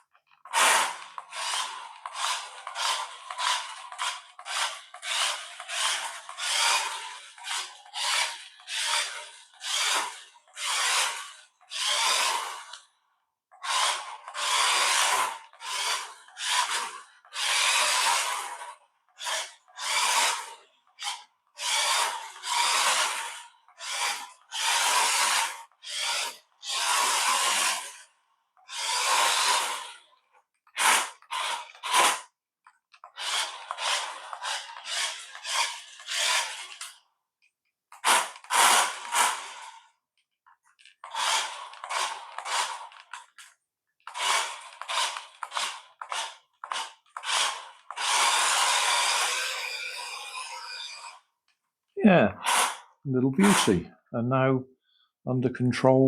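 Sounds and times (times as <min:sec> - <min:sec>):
toy car electric motor bursts: 0:00.4 - 0:12.9, 0:13.6 - 0:32.4, 0:33.0 - 0:37.0, 0:37.9 - 0:40.0, 0:40.8 - 0:51.3, 0:52.4 - 0:53.8.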